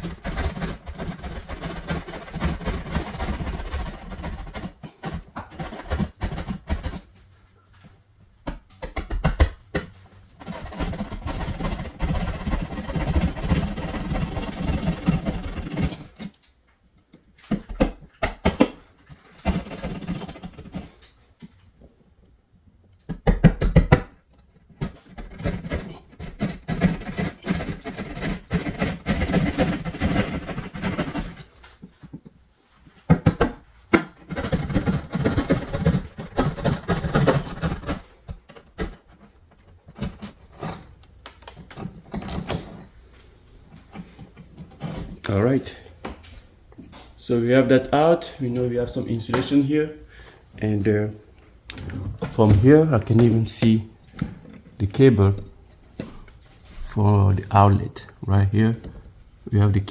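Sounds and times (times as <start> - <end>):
sawing drywall: 0.0 - 7.8, 8.4 - 16.5, 17.3 - 22.0, 23.1 - 45.9, 47.2 - 51.3, 51.9 - 59.9.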